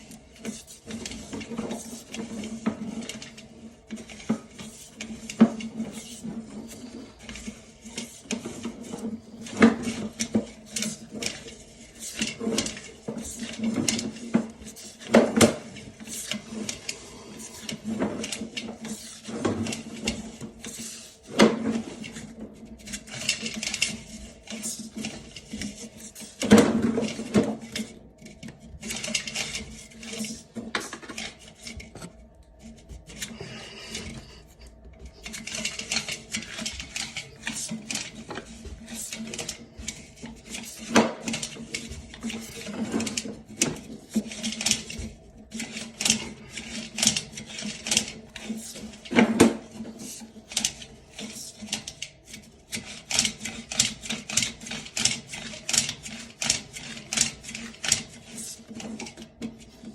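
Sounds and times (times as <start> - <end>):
rapid mechanical clicking and knocking: 0.0 - 32.1, 32.9 - 59.9
steady low hum: 0.0 - 52.8.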